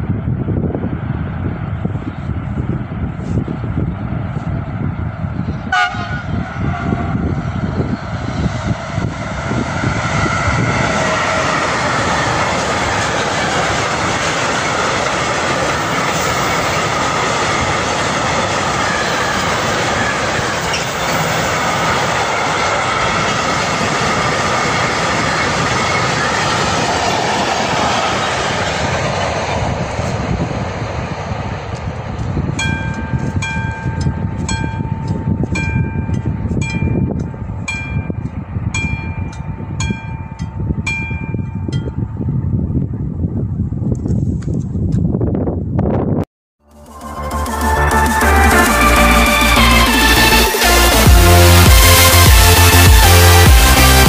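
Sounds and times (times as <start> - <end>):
train wheels rumbling on rails: 0.0 - 46.2, 47.0 - 54.0.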